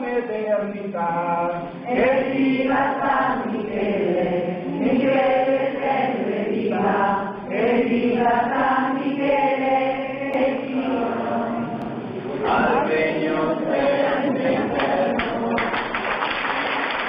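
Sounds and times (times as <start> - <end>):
group singing a hymn: 0.0 - 16.4.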